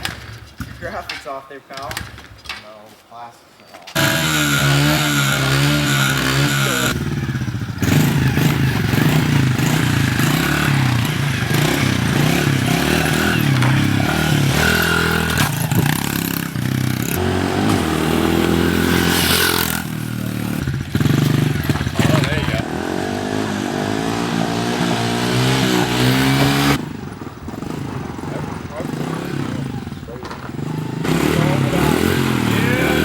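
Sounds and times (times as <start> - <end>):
moped engine revving: 4.0 - 33.0.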